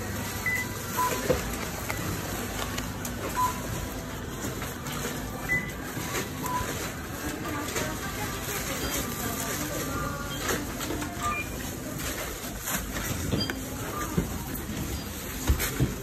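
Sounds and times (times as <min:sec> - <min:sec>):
checkout register beeps: 0:00.0 - 0:16.0
store background noise: 0:00.0 - 0:16.0.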